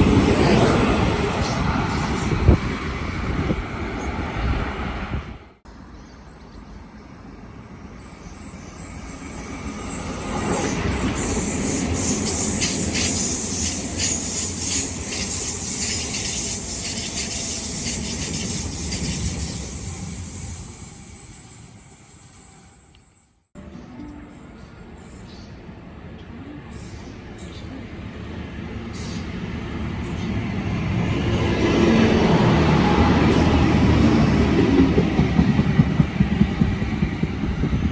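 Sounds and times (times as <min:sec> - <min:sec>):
train passing on rails: 0:00.0 - 0:37.9.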